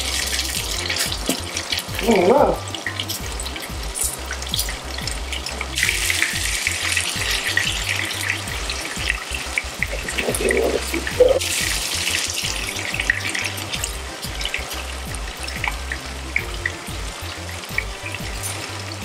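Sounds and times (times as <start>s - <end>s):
food sizzling in a frying pan: 0.0s - 19.0s
pot bubbling: 0.0s - 19.0s
quiet background music: 0.0s - 19.0s.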